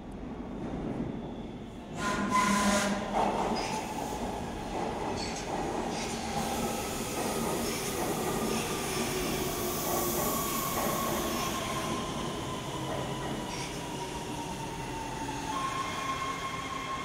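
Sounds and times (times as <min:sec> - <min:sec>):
subway train rolling: 0:00.0 - 0:17.0.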